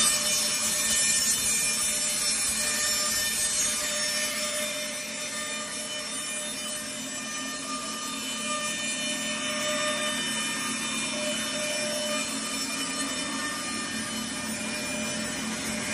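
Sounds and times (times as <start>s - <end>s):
band saw cutting wood: 0.0s - 15.9s
faint machine whine: 0.0s - 15.9s.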